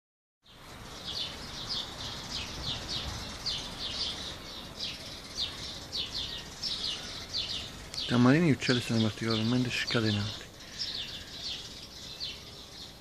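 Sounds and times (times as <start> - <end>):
birds chirping: 0.4 - 13.0.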